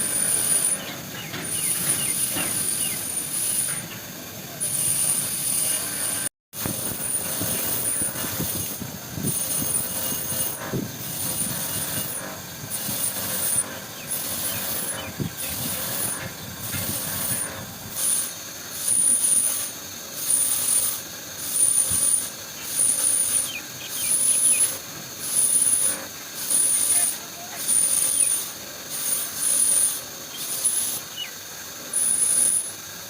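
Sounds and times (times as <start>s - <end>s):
pressurised jet hissing in bursts: 0.0s - 33.0s.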